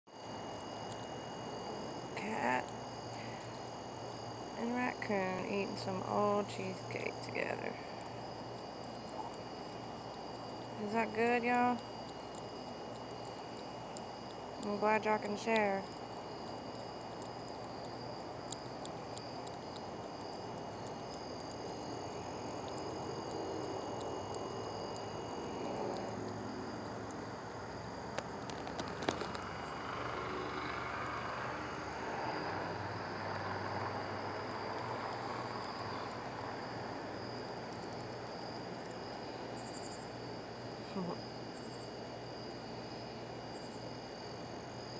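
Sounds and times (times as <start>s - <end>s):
crickets trilling: 0.1s - 44.9s.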